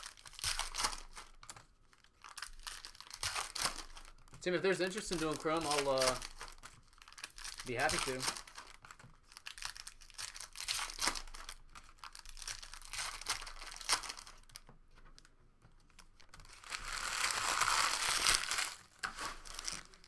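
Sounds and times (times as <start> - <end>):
wrapper tearing open: 0.0 - 4.2, 4.9 - 14.6, 16.0 - 20.0
plastic wrapping crinkling: 0.0 - 20.0.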